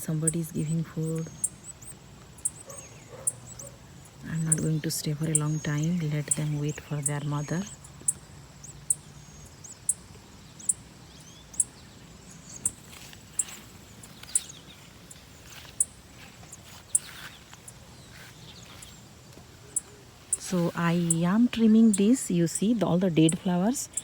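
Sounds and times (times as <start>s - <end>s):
low outdoor background: 0.0s - 24.0s
small bird chirping: 0.0s - 24.0s.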